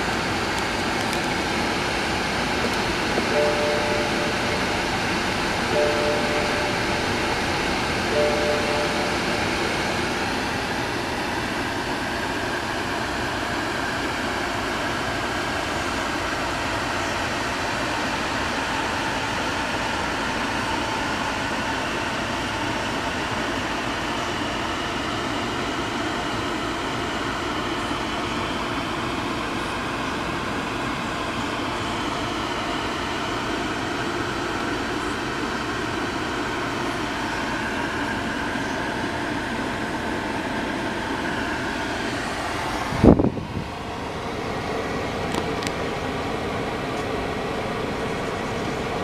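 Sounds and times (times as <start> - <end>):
car fan blowing: 0.0 - 49.0.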